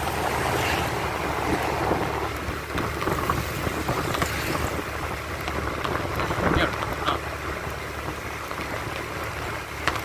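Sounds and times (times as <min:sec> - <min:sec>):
motorcycle engine drone: 0:00.0 - 0:10.0
wind buffeting microphone: 0:00.0 - 0:10.0.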